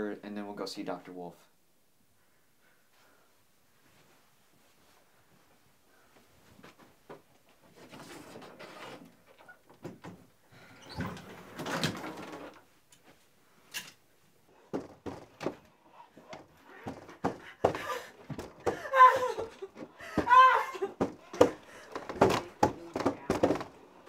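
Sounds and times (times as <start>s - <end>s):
rustling of clothes: 2.1s - 24.0s.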